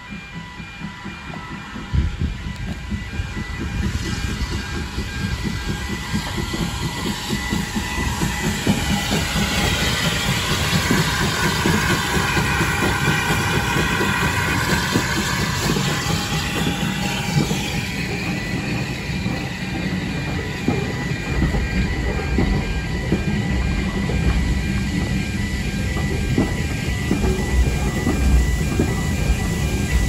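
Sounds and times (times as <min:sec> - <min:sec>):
train wheel squeal: 0:00.0 - 0:30.0.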